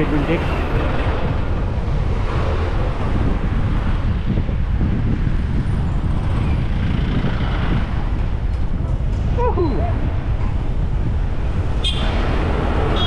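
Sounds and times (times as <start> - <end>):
street traffic: 0.0 - 13.0
wind rumbling on microphone: 0.0 - 13.0.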